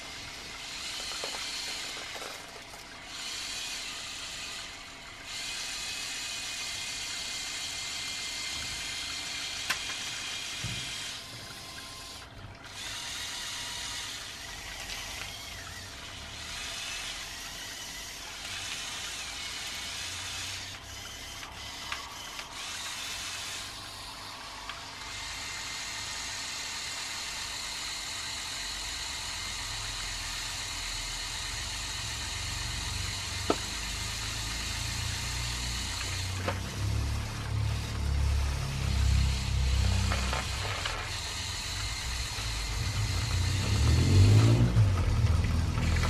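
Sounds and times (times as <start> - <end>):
toy electric motors whirring: 0.0 - 46.0.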